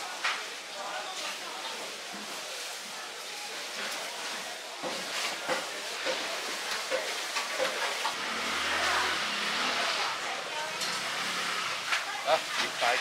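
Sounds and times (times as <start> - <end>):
busy market hiss: 0.0 - 13.0.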